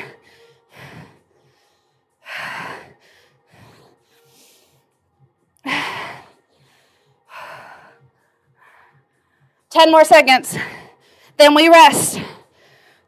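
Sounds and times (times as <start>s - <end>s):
woman breathing hard: 0.0s - 9.7s, 10.5s - 11.4s, 12.1s - 13.0s.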